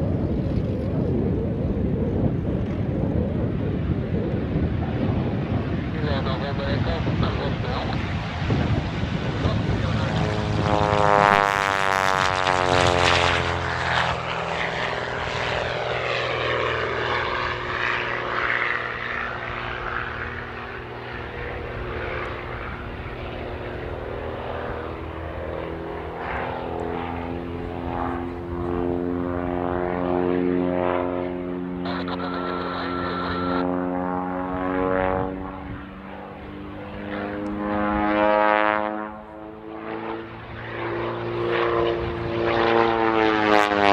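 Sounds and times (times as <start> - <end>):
biplane engine and propeller: 0.0 - 43.9.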